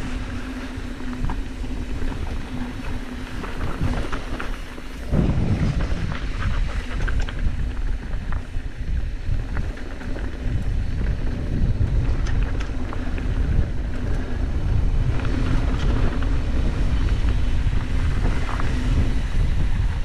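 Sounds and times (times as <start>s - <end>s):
stones and bike rattling: 0.0s - 20.0s
wind rumbling on microphone: 0.0s - 20.0s.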